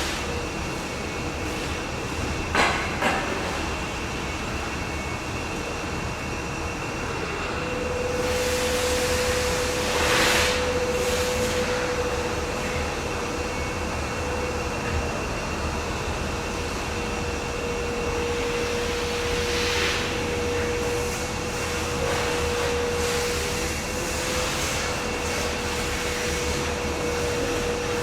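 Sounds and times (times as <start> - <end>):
construction machine whine: 0.0 - 28.0.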